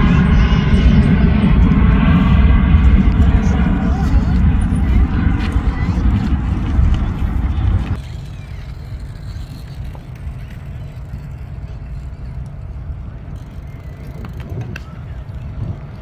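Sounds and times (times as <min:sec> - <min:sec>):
jet engines rumbling at takeoff: 0:00.0 - 0:16.0.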